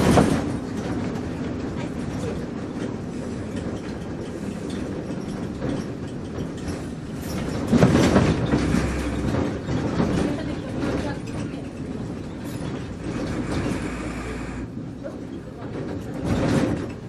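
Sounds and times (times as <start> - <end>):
bus body rattling: 0.0 - 17.0
bus engine and road rumble: 0.0 - 17.0.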